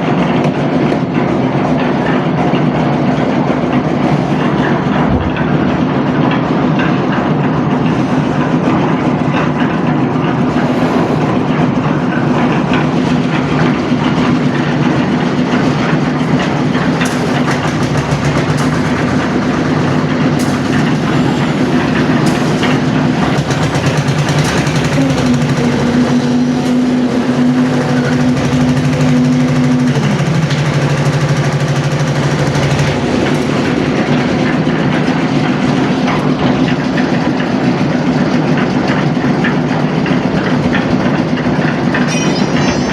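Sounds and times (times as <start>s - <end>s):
heavy engine running: 0.0s - 42.9s.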